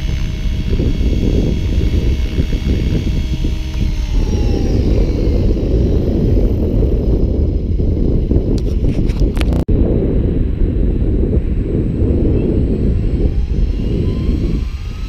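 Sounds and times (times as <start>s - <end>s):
rc helicopter rotor whine: 0.0s - 15.0s
wind rumble on microphone: 0.0s - 15.0s.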